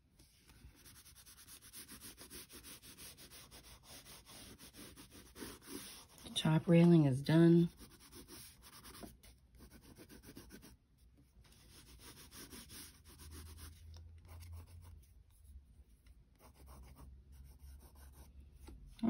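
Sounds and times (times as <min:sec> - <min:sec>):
crayon scratching on paper: 0:00.6 - 0:10.8, 0:11.5 - 0:15.5, 0:16.3 - 0:18.3.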